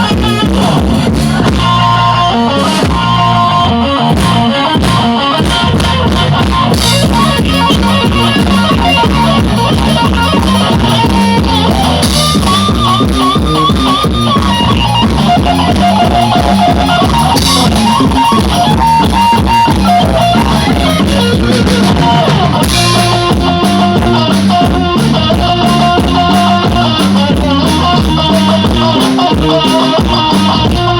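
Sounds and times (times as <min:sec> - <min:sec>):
band playing music: 0:00.0 - 0:30.9
drums keeping a steady beat: 0:00.0 - 0:30.9
guitar: 0:00.0 - 0:30.9.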